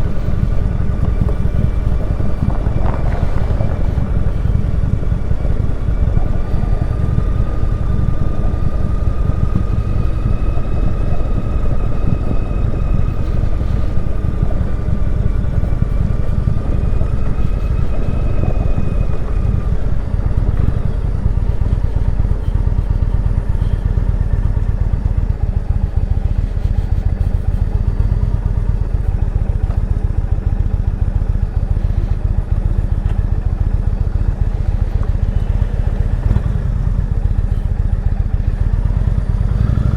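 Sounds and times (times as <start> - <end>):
faint steady whine: 0.0 - 39.9
motorcycle engine running: 0.0 - 39.9
wind rumble on microphone: 0.0 - 39.9.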